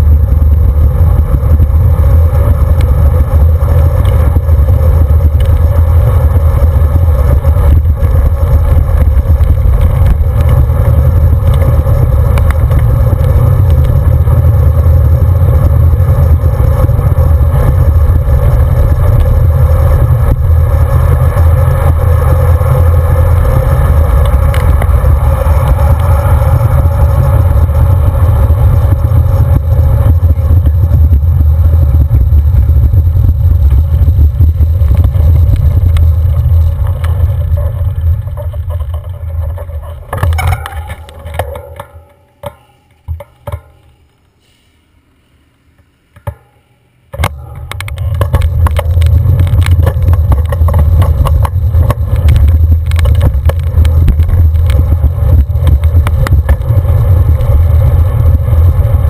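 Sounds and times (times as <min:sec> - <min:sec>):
wind rumble on microphone: 0:00.0 - 0:41.8, 0:47.2 - 0:59.0
tyre and road noise: 0:00.0 - 0:59.0.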